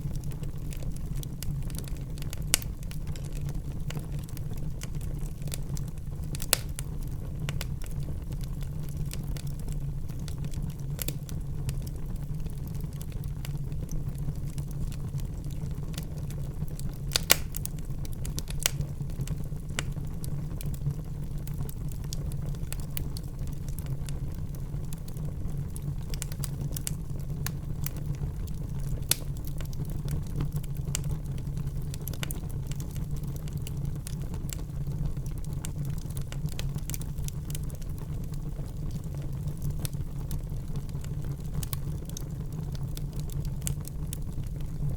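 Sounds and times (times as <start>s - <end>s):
burning wood crackling and popping: 0.0s - 44.9s
fire rumbling: 0.0s - 44.9s.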